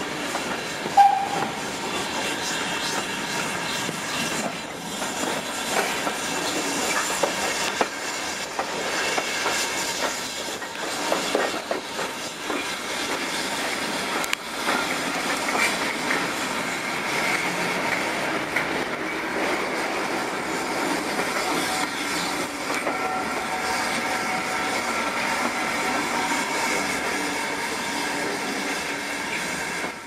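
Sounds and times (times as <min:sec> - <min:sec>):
rail joint clicks: 0:00.0 - 0:27.3
train rolling over jointed track: 0:00.0 - 0:30.0.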